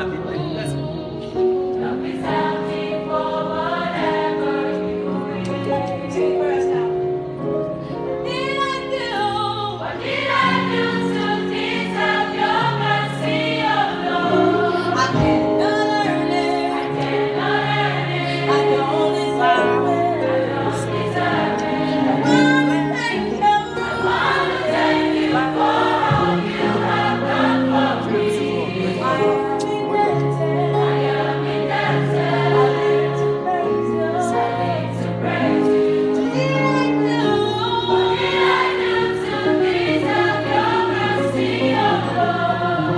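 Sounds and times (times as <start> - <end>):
choir singing: 0.0 - 7.5, 8.2 - 42.9.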